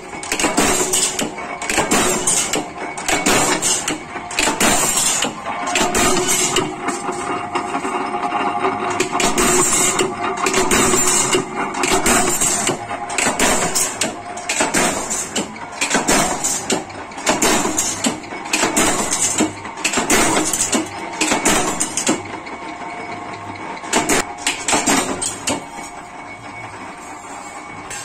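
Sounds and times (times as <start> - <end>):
power press metal clanks: 0.0 - 22.3, 23.9 - 26.0.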